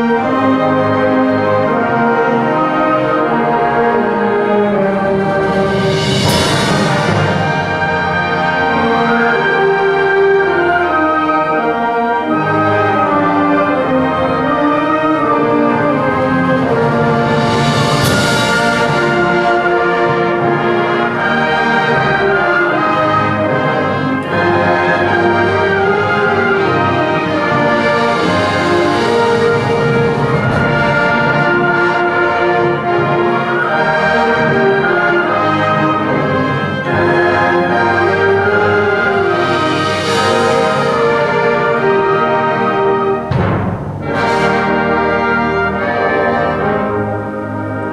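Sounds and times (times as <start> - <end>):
brass-led orchestral music: 0.0 - 47.9.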